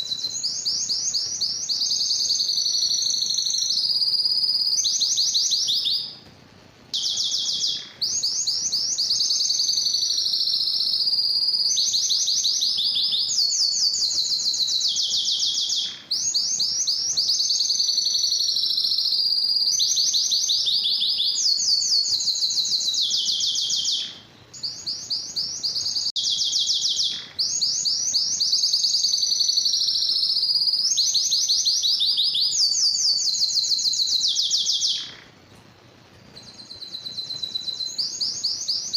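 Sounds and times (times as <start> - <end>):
canary singing trills: 0.0 - 6.3, 6.9 - 35.4, 36.2 - 38.9.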